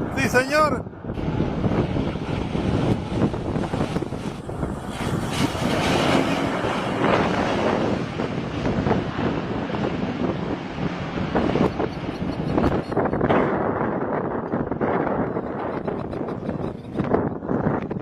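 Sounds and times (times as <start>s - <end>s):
light aircraft engine: 0.0s - 18.0s
wind on microphone: 0.0s - 18.0s.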